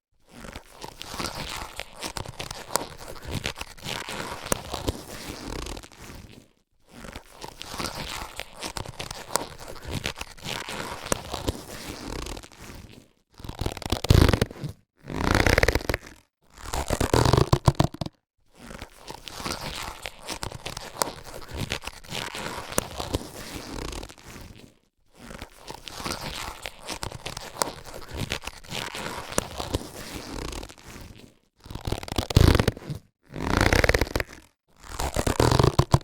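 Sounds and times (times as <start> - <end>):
latex gloves rubbing and rustling: 0.1 - 36.0.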